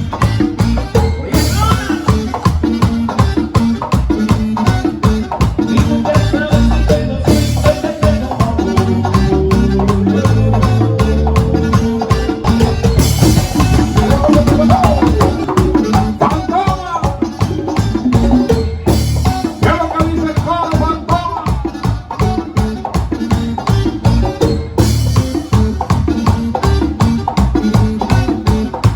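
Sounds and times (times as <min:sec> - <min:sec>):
drums and shaker beat: 0:00.0 - 0:28.9
tropical dance band music: 0:00.0 - 0:28.9.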